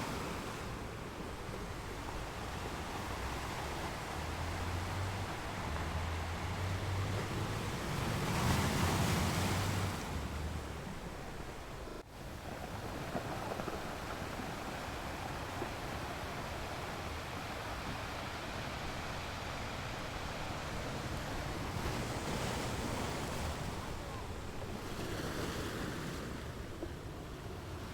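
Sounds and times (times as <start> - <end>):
ocean surf washing: 0.0 - 27.9.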